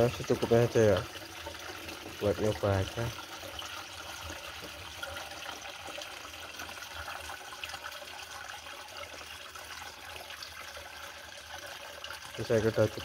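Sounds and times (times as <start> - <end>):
water splashing into plastic tank: 0.0 - 13.0.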